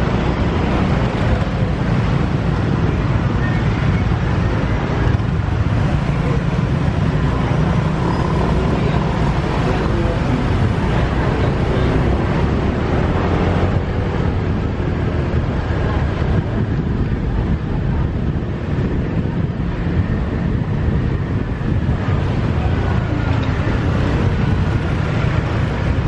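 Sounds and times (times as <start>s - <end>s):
traffic: 0.0s - 26.0s
wind and road noise: 0.0s - 26.0s.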